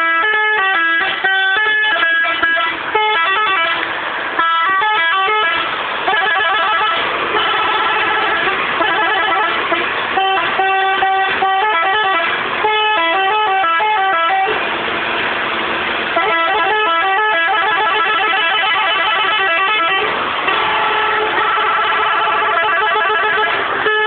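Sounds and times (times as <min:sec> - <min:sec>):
multi-tone truck horn melody: 0:00.0 - 0:14.6, 0:16.0 - 0:24.0.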